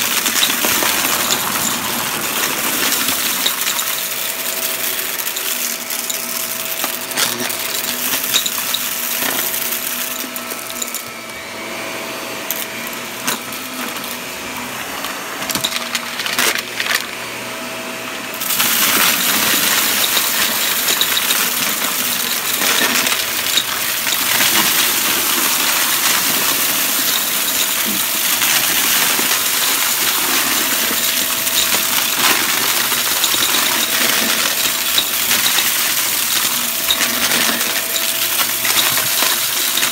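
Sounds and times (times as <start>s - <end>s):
debris rattling through vacuum: 0.0s - 11.2s, 18.4s - 39.9s
vacuum cleaner whine: 0.0s - 39.9s.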